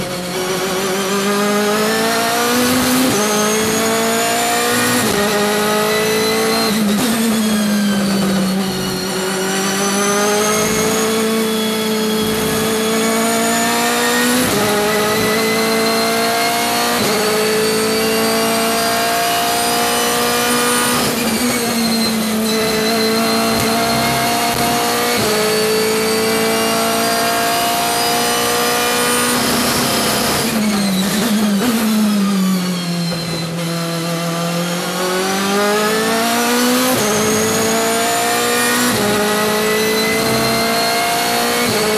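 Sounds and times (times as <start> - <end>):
race car engine revving through gears: 0.0 - 41.9.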